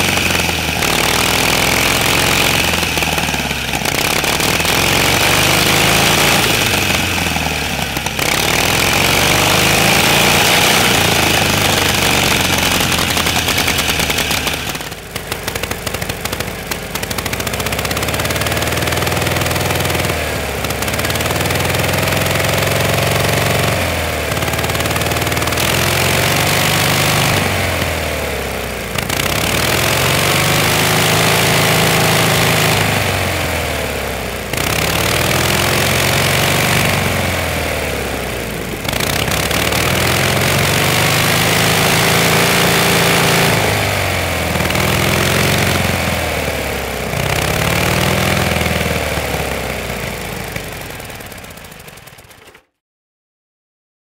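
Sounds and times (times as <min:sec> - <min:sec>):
motorcycle engine revving: 0:00.0 - 0:52.8.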